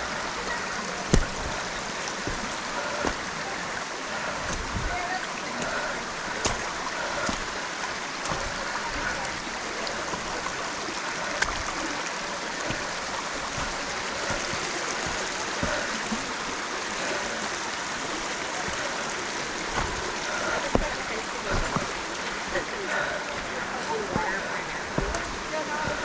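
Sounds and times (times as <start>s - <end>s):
stream rushing over stones: 0.0s - 26.0s.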